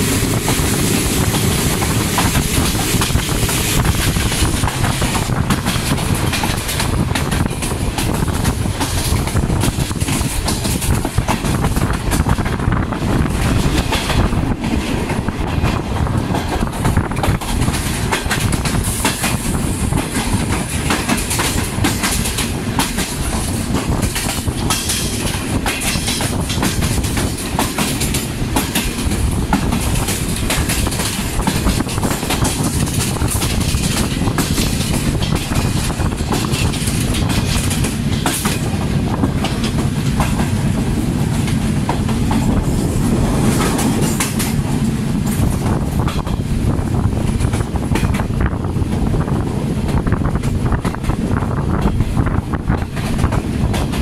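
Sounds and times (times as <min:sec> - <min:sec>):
train coaches rumbling: 0:00.0 - 0:54.0
wheels clicking over rail joints: 0:00.3 - 0:54.0.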